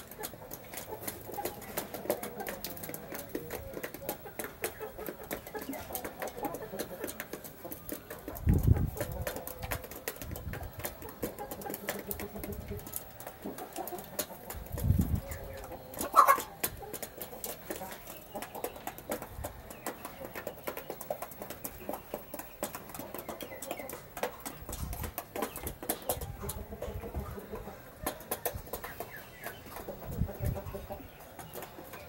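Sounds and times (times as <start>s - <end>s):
chicken clucking: 0.0s - 32.0s
chickens pecking: 0.0s - 32.0s.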